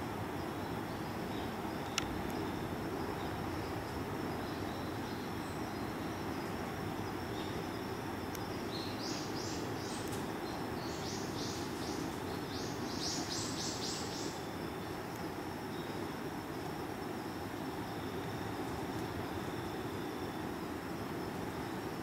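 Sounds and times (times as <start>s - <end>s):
steady low hiss: 0.0s - 22.0s.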